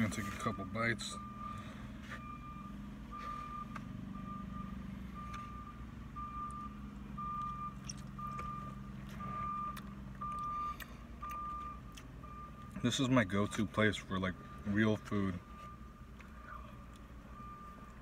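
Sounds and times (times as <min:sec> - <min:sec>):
reversing alarm beeping: 0:00.0 - 0:16.1, 0:16.7 - 0:18.0
low engine hum: 0:00.0 - 0:18.0.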